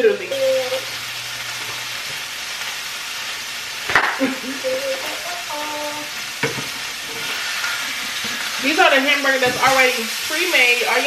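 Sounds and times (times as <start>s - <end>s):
patties sizzling in a frying pan: 0.0s - 11.0s.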